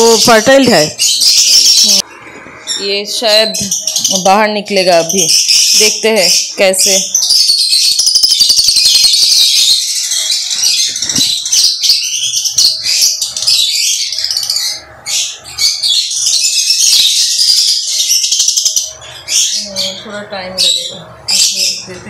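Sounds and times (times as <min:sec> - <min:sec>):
lovebirds chattering and screeching: 0:00.0 - 0:22.0.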